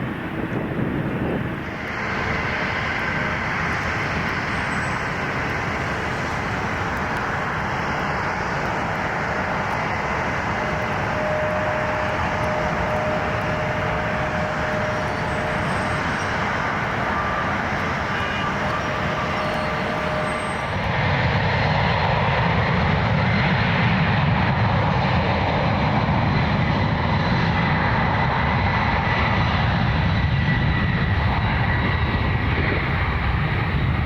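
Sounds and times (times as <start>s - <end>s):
jet engine roar with whine: 0.0s - 34.0s.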